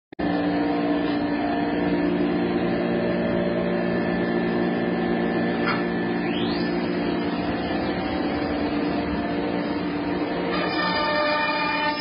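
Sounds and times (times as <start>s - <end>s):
rising whine: 0.2s - 12.0s
router machine humming: 0.2s - 12.0s.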